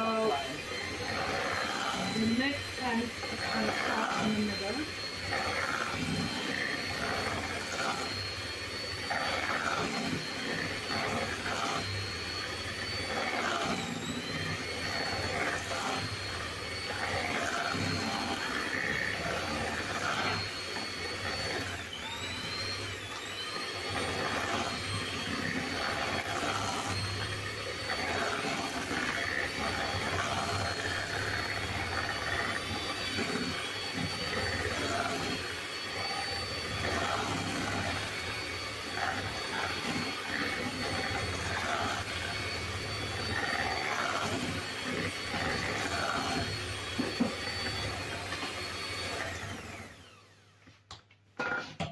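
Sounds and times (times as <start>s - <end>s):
electric hand mixer whining: 0.0s - 51.9s.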